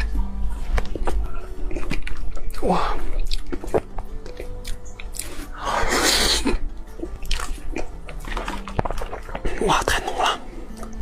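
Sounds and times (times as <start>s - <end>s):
close chewing and mouth clicks: 0.0s - 11.0s
quiet background music: 0.0s - 11.0s.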